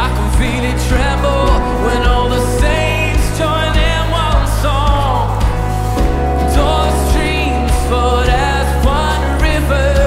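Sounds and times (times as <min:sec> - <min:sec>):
person singing: 0:00.0 - 0:10.0
worship band playing: 0:00.0 - 0:10.0.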